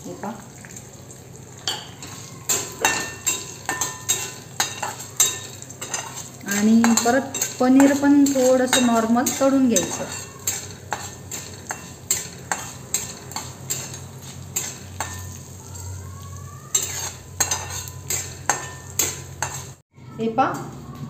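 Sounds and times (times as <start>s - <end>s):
faint sizzle: 0.0s - 21.0s
metal spatula scraping a pan: 1.4s - 19.8s.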